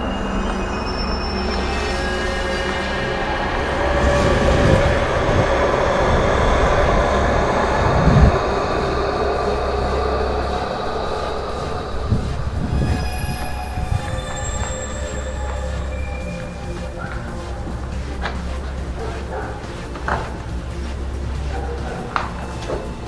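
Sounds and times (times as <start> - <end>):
high metallic squealing tones: 0.0 - 23.0
low rumble: 0.0 - 23.0.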